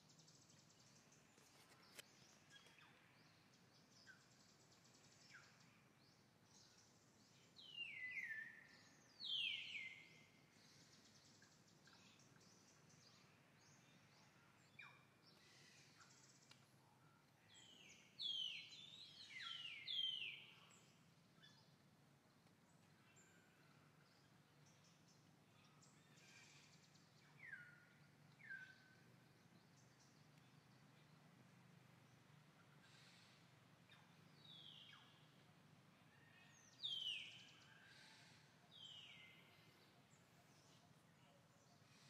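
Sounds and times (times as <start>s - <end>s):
faint outdoor ambience: 0.0s - 42.0s.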